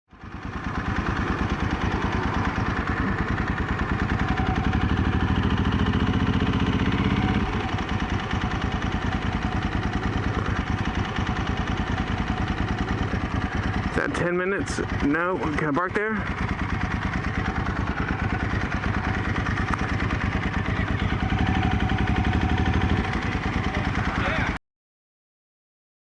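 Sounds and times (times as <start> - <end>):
motorcycle engine running: 0.1 - 24.6.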